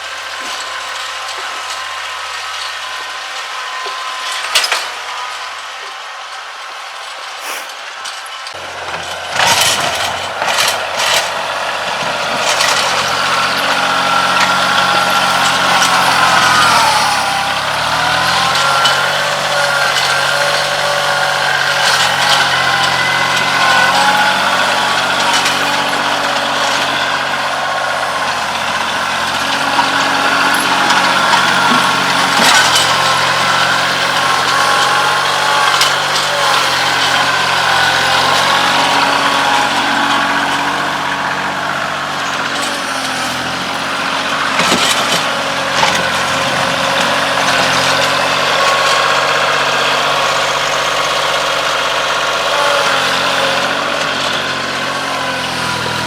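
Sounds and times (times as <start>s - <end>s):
tractor engine running: 0.0s - 56.0s
sharp knocks and clanks: 8.5s - 56.0s.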